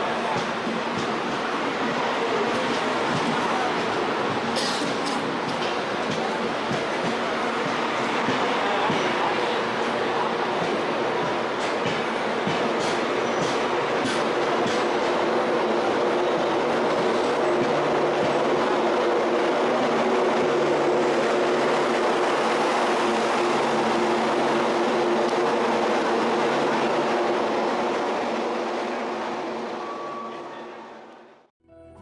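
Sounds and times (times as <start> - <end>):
passenger train rumbling past: 0.0 - 31.5.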